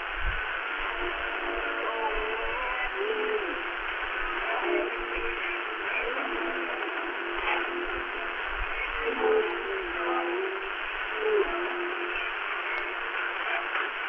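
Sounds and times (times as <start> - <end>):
faint radio music: 0.0 - 14.0
static hiss: 0.0 - 14.0.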